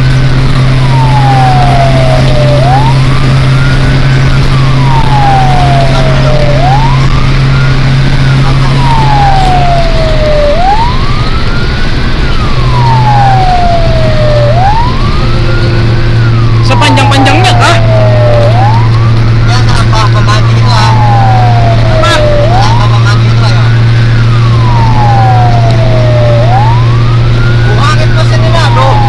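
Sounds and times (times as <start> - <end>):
fire truck siren wailing: 0.0 - 29.0
truck engine droning: 0.0 - 29.0.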